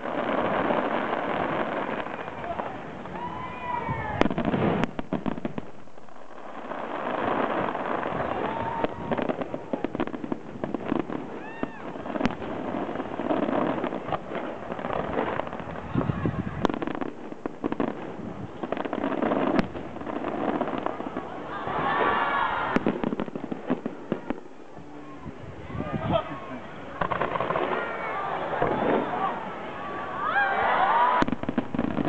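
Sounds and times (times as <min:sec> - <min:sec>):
fireworks crackling: 0:00.0 - 0:32.0
fireworks sharp bangs: 0:00.0 - 0:32.0.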